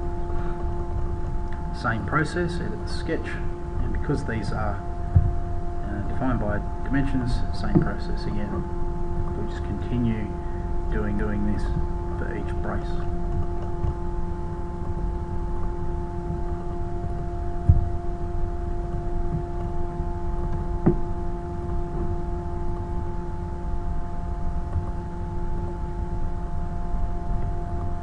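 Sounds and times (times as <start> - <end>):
steady hum over low rumble: 0.0 - 28.0.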